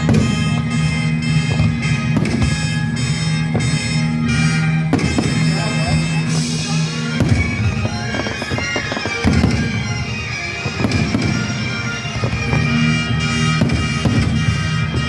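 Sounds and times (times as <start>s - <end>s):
fireworks bangs and crackles: 0.0s - 15.0s
music with long held tones: 0.0s - 15.0s.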